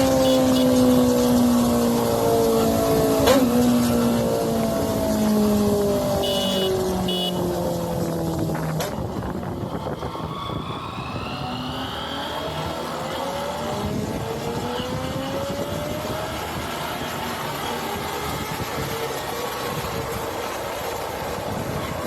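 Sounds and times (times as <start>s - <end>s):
motorcycle engine: 0.0s - 22.0s
wind and road noise: 0.0s - 22.0s.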